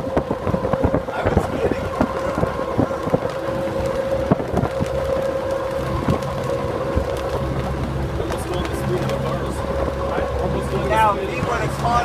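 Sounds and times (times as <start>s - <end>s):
steady whine: 0.0s - 12.0s
trolley wheels rumbling on rail: 0.0s - 12.0s.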